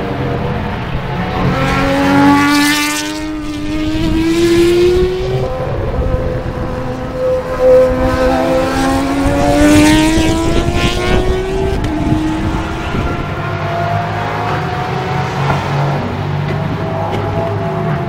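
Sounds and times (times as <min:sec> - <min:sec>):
race car engine accelerating past: 0:00.2 - 0:18.0.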